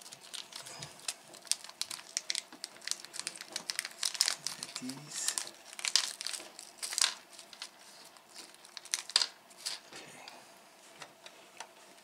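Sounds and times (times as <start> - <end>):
plastic packet crinkling: 0.0 - 9.9.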